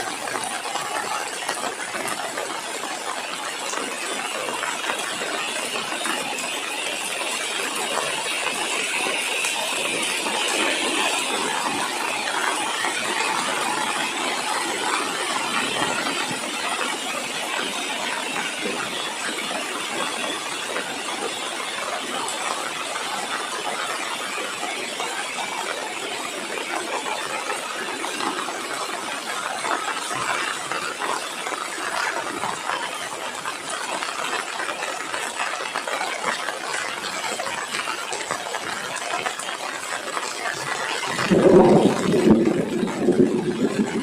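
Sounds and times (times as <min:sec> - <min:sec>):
light rain falling: 0:00.0 - 0:44.0.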